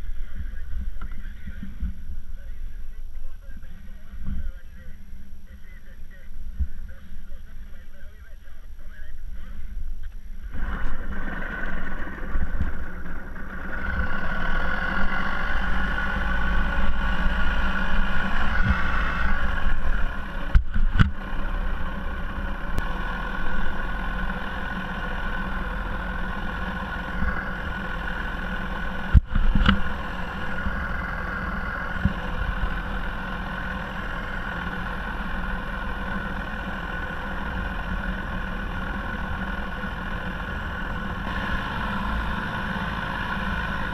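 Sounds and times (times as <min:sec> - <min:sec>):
small outboard motor running: 0:00.0 - 0:43.9.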